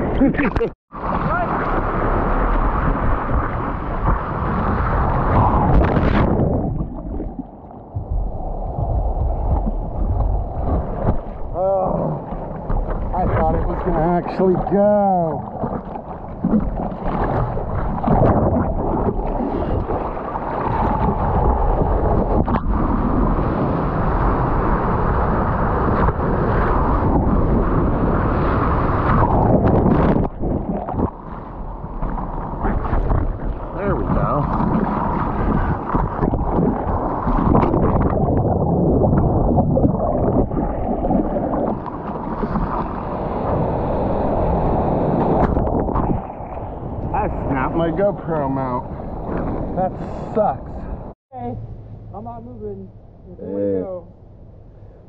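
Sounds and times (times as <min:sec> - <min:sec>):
wind buffeting microphone: 0:00.0 - 0:55.0
breaking wave rushing and splashing: 0:00.9 - 0:51.0.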